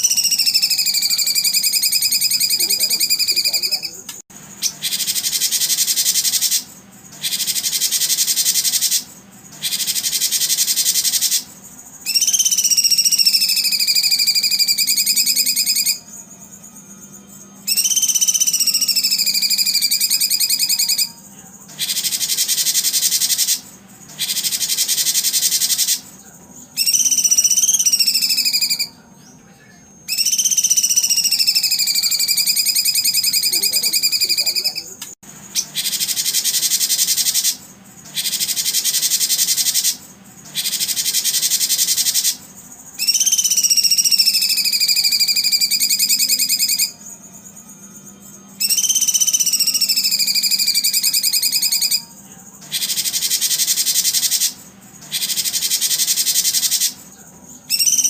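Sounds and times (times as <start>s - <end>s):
rapid buzzing trills: 0.0s - 58.0s.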